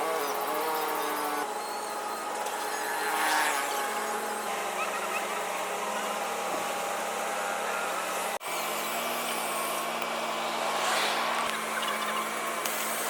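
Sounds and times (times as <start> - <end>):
machine noise with low hum: 0.0 - 13.0.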